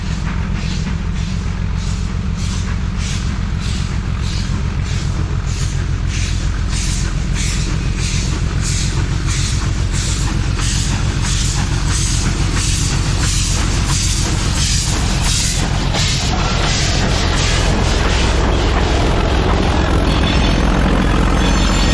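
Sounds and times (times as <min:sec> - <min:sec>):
low rumble of moving train: 0:00.0 - 0:21.9
steam locomotive chuffing: 0:00.0 - 0:21.9.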